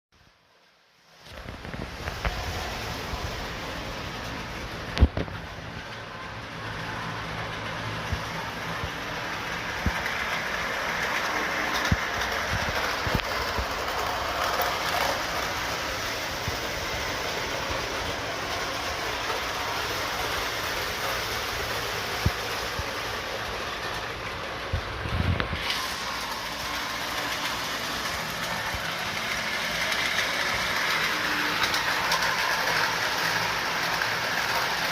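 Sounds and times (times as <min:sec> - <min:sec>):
model train running on track: 0:00.3 - 0:34.9
wheels clicking over rail joints: 0:01.2 - 0:34.9.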